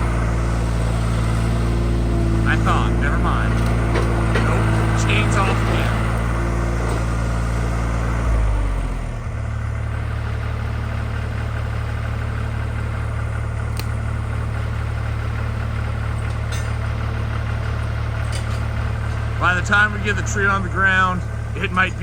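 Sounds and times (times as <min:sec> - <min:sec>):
skid steer engine: 0:00.0 - 0:22.0.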